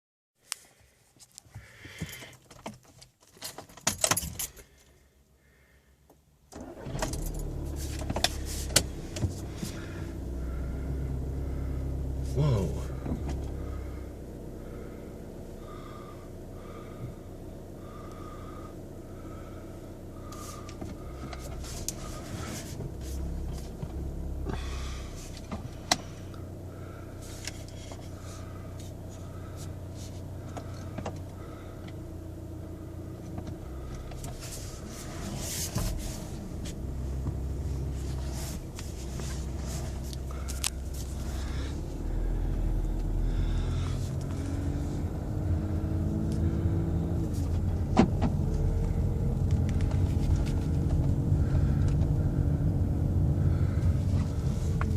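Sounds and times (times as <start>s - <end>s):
diesel engine running: 6.6s - 54.9s.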